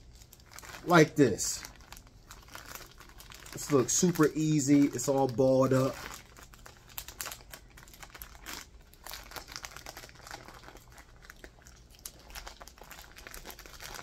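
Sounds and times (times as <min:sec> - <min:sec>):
packaging crinkling: 0:00.0 - 0:14.0
packaging tearing: 0:00.0 - 0:14.0.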